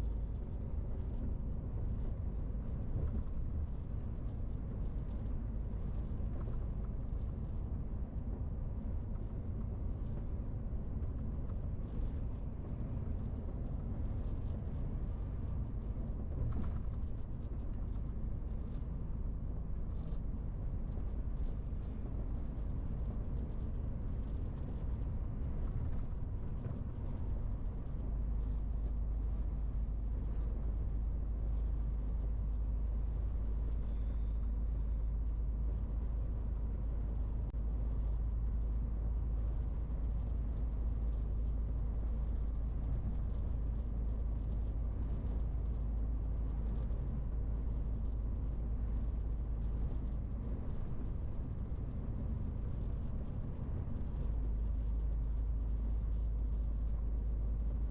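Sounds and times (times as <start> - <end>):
road and tyre noise: 0.0 - 57.9.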